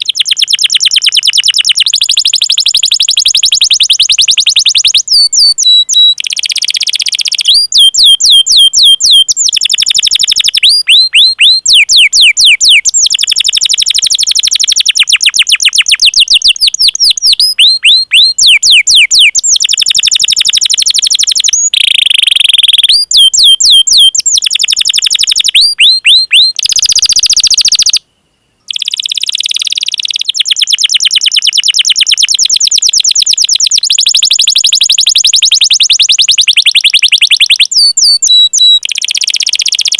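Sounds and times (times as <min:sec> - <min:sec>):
canary singing chirps and trills: 0:00.0 - 0:28.0, 0:28.6 - 0:39.9.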